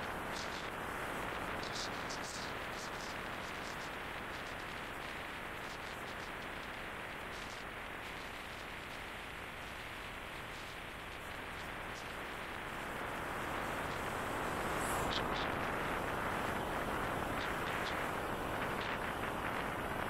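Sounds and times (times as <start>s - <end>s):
wind and road rush on microphone: 0.0s - 20.0s.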